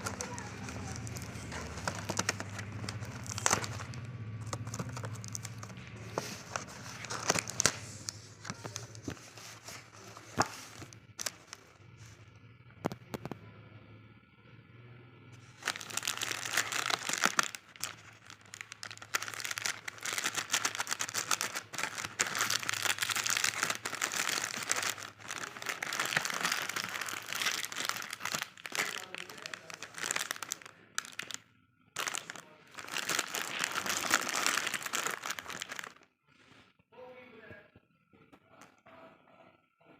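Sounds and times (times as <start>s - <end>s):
plastic wrapper crinkling: 0.0s - 12.2s, 15.4s - 36.1s.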